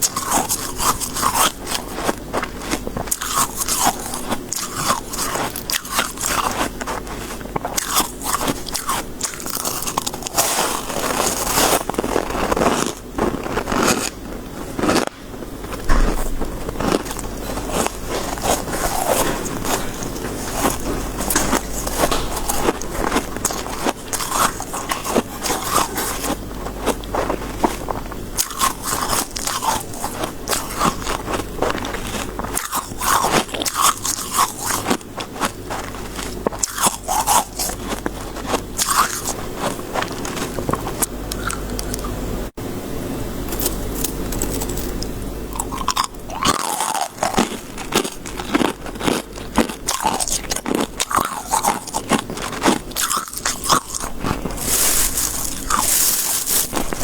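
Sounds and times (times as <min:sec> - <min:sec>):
ice being chewed: 0:00.0 - 0:15.8, 0:16.6 - 0:42.2, 0:43.5 - 0:57.0.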